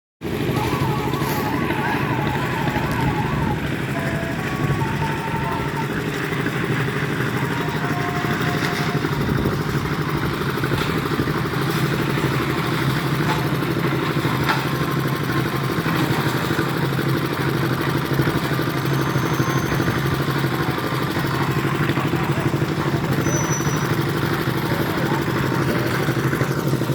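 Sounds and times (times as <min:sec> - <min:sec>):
diesel truck engine running: 0:00.2 - 0:26.9.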